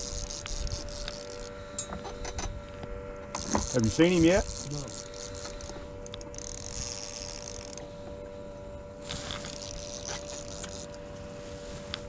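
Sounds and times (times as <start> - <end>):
fishing reel buzzing: 0.0 - 2.4, 3.3 - 12.0
electric motor hum: 0.0 - 12.0.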